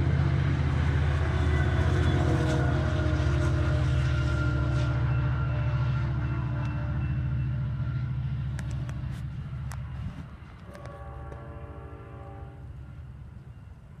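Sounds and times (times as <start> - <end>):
train rumble and wheel clatter: 0.0 - 14.0
train horn: 1.0 - 9.2, 9.8 - 14.0.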